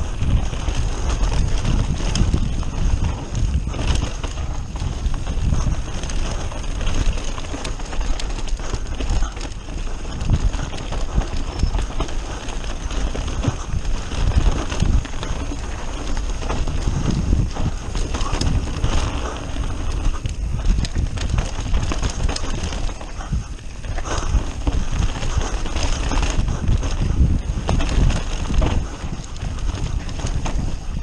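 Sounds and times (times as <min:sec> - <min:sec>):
mountain bike clattering on trail: 0:00.0 - 0:31.0.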